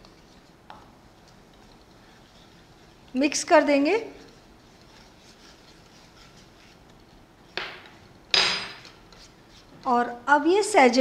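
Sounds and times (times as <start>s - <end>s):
spatula scraping a pan: 0.0s - 9.8s.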